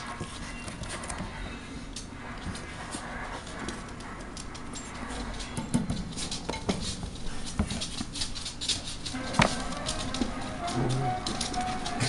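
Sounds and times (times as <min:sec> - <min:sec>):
puppy scratching in wire crate: 0:00.0 - 0:12.0.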